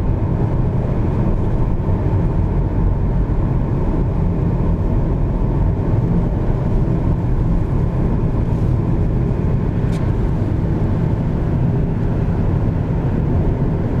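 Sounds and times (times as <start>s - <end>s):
car driving on asphalt: 0.0s - 14.0s.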